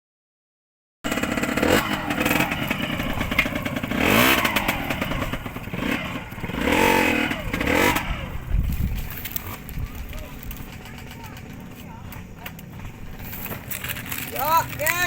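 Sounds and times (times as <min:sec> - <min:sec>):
motorcycle engine revving: 0:01.1 - 0:14.4.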